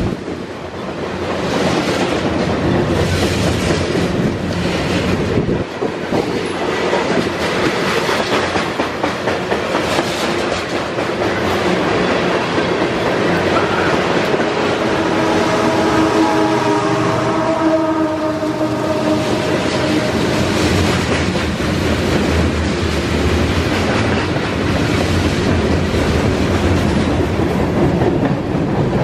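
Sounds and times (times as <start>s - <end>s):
train wheels clattering over rails: 0.0s - 16.0s, 18.3s - 29.0s
locomotive humming: 0.0s - 29.0s.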